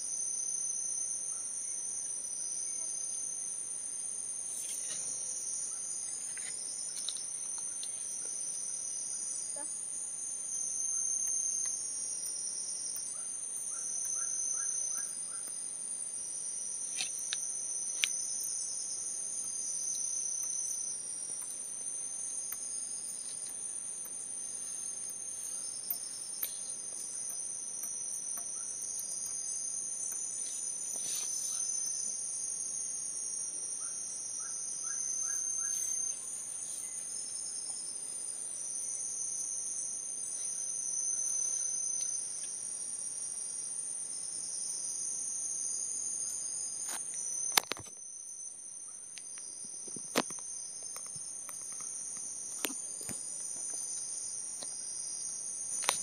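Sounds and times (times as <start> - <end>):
insects trilling: 0.0 - 56.0
lower insect buzz: 0.0 - 56.0.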